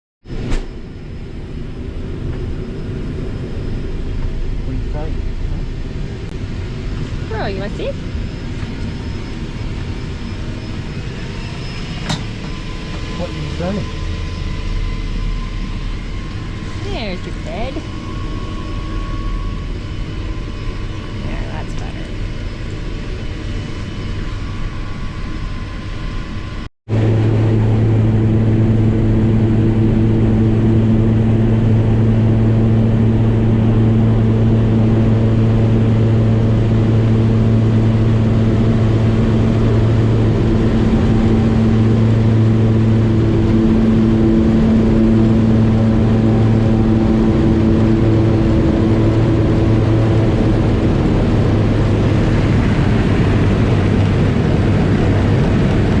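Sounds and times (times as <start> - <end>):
propeller engine running: 0.3 - 56.0.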